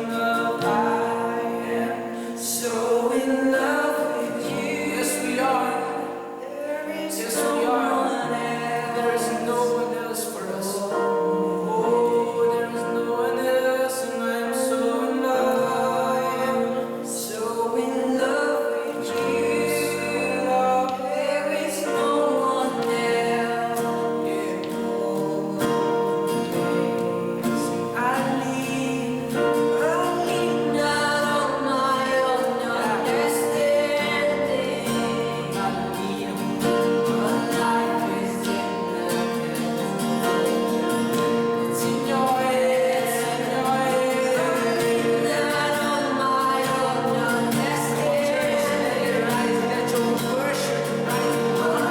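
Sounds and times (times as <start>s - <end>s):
gospel singing: 0.0s - 51.9s.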